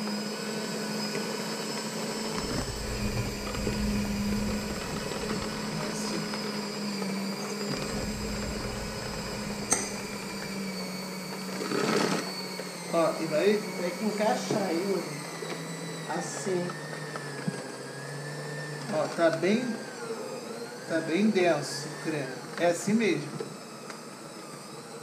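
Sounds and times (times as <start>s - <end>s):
electric hand mixer running: 0.0s - 25.0s.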